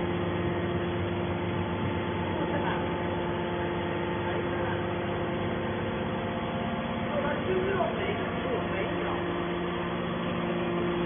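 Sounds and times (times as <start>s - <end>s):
hydraulic power unit humming: 0.0s - 11.0s.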